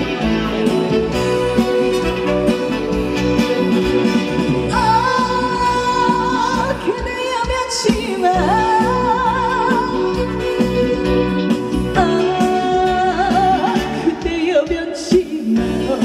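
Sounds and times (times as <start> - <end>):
song over a pa system: 0.0 - 16.0.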